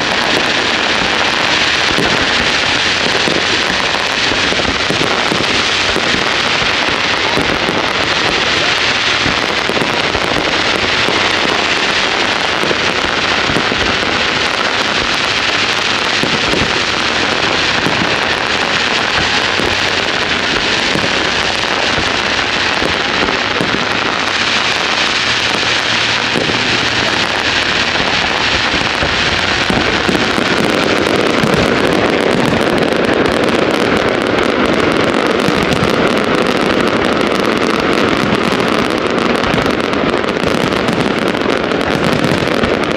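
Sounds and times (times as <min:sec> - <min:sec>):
fireworks crackling and popping: 0:00.0 - 0:42.9.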